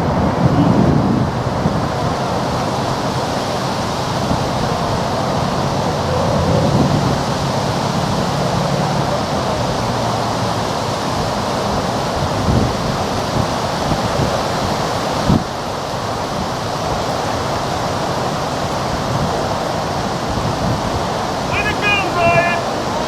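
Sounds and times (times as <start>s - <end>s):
rushing water: 0.0s - 23.0s
wind on microphone: 0.0s - 23.0s.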